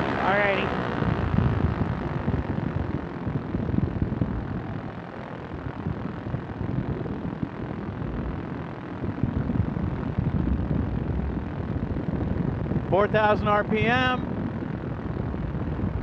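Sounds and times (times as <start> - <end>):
ultralight aircraft engine and propeller: 0.0 - 16.0
wind rush: 0.0 - 16.0.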